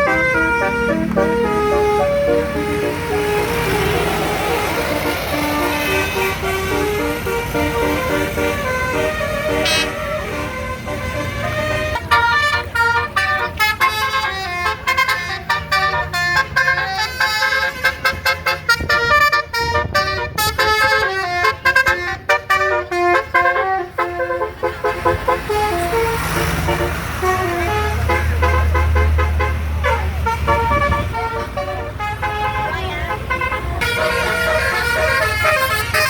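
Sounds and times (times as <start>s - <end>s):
musical bus horn melody: 0.0s - 36.0s.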